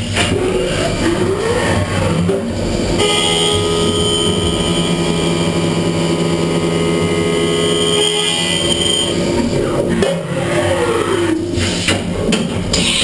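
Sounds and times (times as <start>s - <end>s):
milling machine spindle whine: 0.3s - 11.6s.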